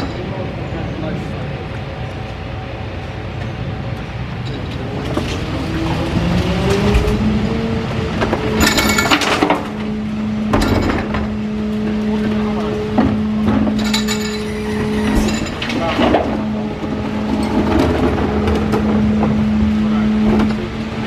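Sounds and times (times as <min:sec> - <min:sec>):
hydraulic hum: 0:02.1 - 0:21.0
hydraulic lifter whine: 0:03.4 - 0:21.0.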